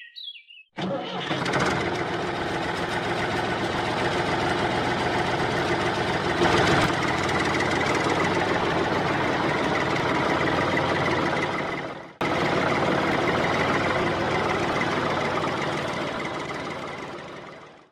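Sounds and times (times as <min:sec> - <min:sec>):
tractor engine idling: 0:00.8 - 0:17.9.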